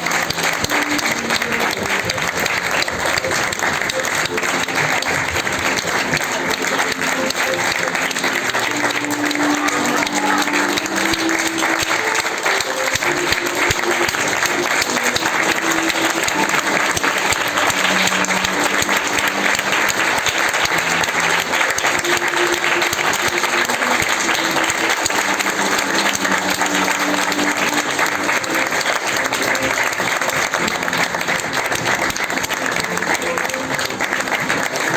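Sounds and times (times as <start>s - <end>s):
audience applauding: 0.0s - 34.9s
slow music melody: 0.0s - 34.9s.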